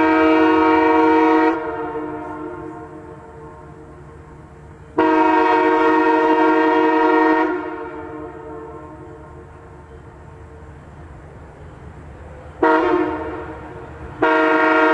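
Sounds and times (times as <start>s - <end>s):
train air horn: 0.0s - 10.5s, 12.6s - 14.9s.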